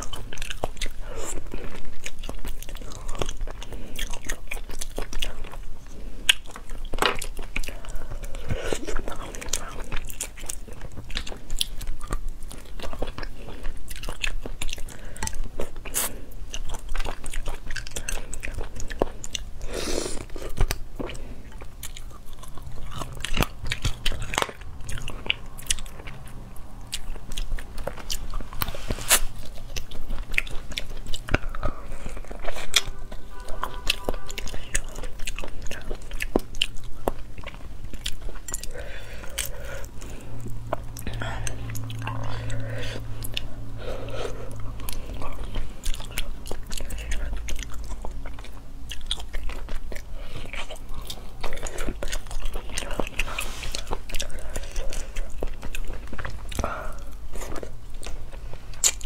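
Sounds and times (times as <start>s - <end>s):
chewing and crunching bones: 0.0s - 59.0s.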